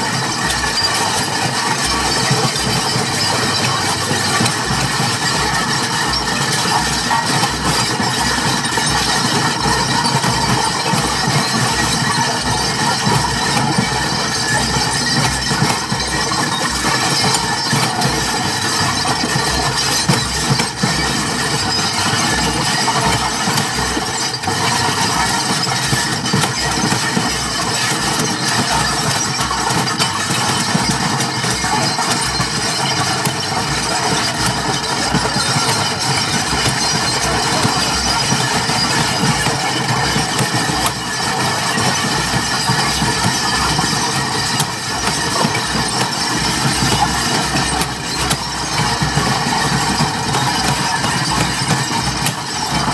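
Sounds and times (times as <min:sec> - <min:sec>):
wall of noise: 0:00.0 - 0:52.9.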